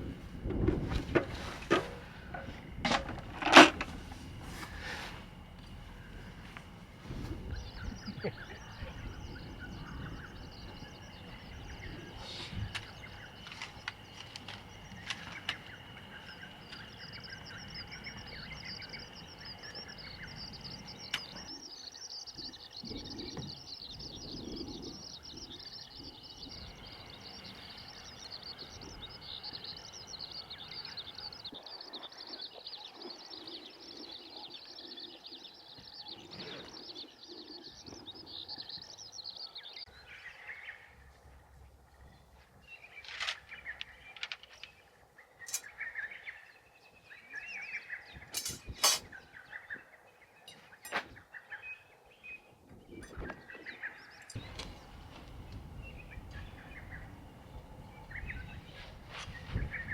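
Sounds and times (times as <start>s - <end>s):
bird twittering song: 4.6s - 59.9s.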